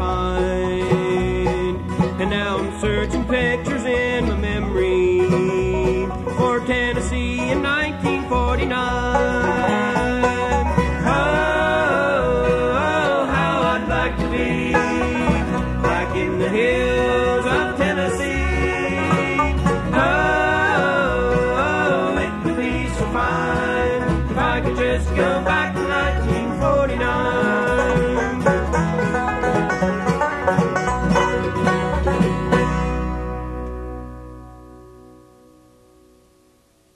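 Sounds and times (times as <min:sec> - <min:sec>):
bluegrass band playing: 0:00.0 - 0:35.2.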